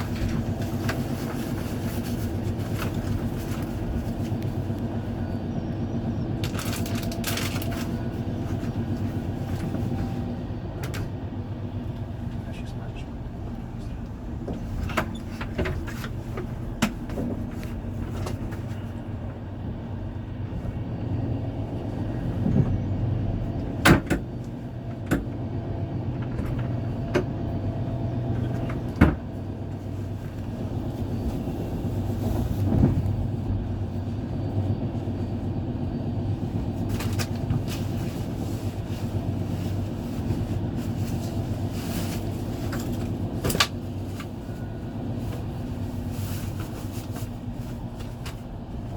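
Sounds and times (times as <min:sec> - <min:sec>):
train low rumble: 0:00.0 - 0:48.9.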